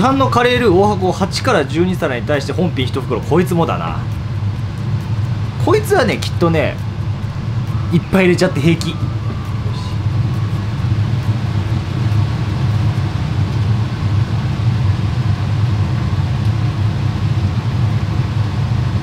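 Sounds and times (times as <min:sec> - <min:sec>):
extractor fan rumbling: 0:00.0 - 0:18.9.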